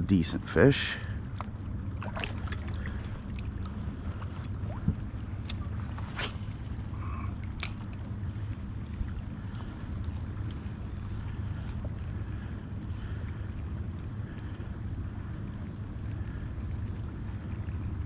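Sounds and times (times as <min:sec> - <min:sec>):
water rumbling around kayak hull: 0:01.2 - 0:18.0.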